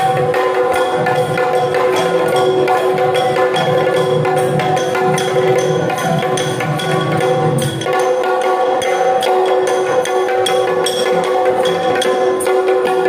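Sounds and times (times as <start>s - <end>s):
drumming: 0.0s - 13.0s
hand cymbals striking: 0.0s - 13.0s.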